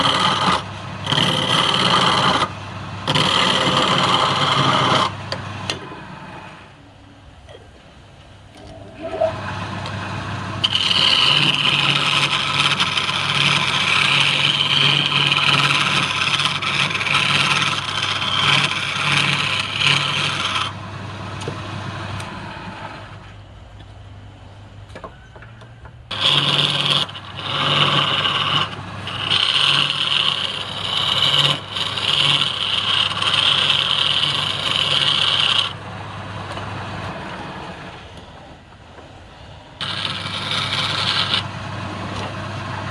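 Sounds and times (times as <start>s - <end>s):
turning tool scraping wood: 0.0s - 6.6s, 9.0s - 23.4s, 26.1s - 35.8s, 36.5s - 38.3s, 39.8s - 42.7s
wood lathe motor hum: 0.0s - 6.7s, 8.6s - 23.4s, 26.1s - 38.5s, 39.8s - 42.9s.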